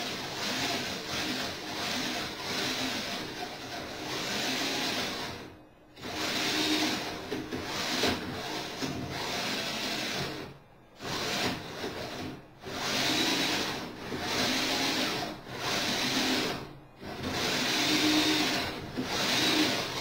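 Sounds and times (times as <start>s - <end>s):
electric winch motors whirring: 0.0s - 20.0s.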